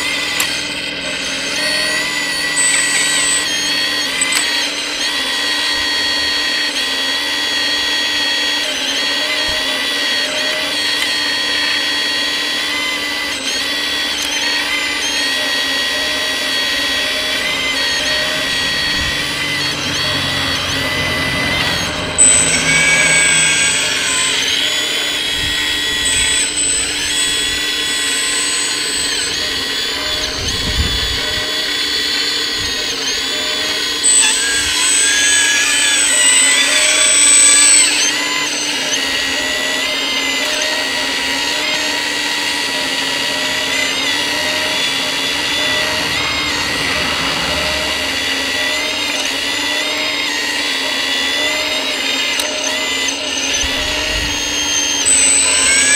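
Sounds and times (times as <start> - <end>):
high whistle: 0.0 - 55.9
hydraulic pump whining: 0.0 - 55.9.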